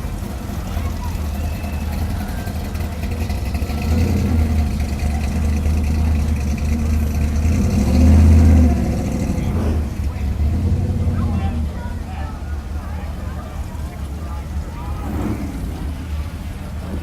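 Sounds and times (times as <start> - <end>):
car engine rumbling past: 0.0 - 17.0.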